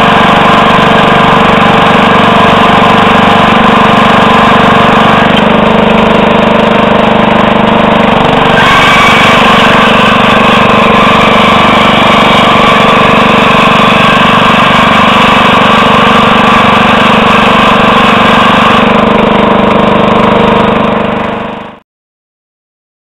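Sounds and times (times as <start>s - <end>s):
snowblower throwing snow: 0.0s - 21.6s
tractor engine running: 0.0s - 21.8s.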